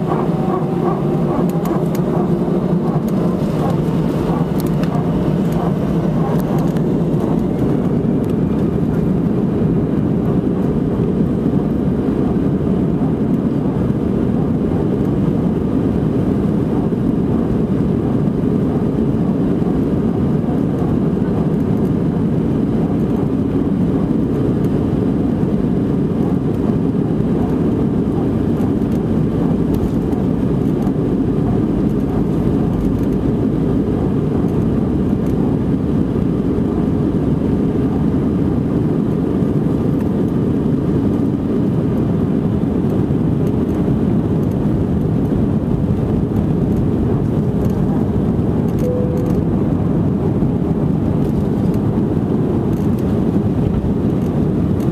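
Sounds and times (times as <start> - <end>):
jet engine cabin noise: 0.0 - 54.9.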